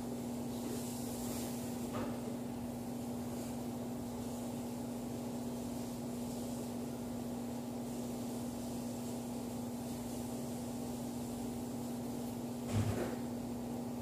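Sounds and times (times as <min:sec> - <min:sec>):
faint hiss: 0:00.0 - 0:14.0
low machine hum: 0:00.0 - 0:14.0.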